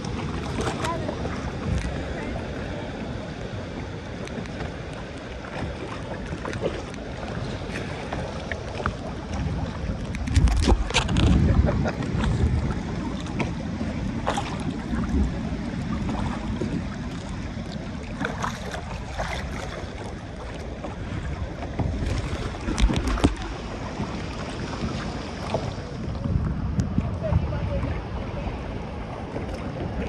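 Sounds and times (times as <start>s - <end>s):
water splashing and lapping: 0.0s - 30.0s
wind buffeting microphone: 0.0s - 30.0s.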